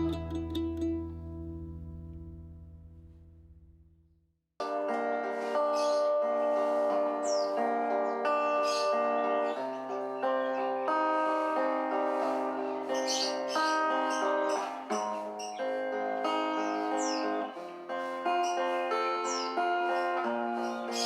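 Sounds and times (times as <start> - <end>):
plucked acoustic guitar music: 0.0 - 3.7, 4.6 - 21.0.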